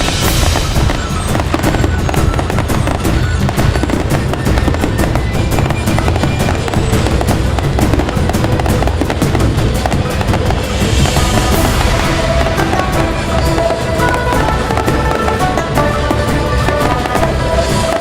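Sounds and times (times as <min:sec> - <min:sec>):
fireworks crackling: 0:00.0 - 0:18.0
loud music: 0:00.0 - 0:18.0.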